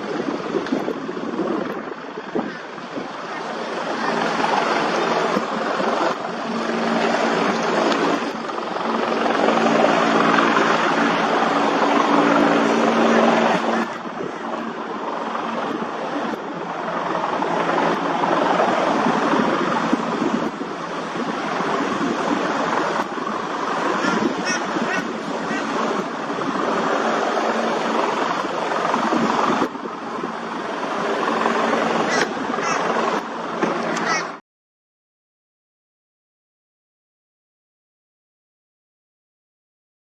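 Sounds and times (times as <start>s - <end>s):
helicopter engine and rotor: 0.0s - 34.4s.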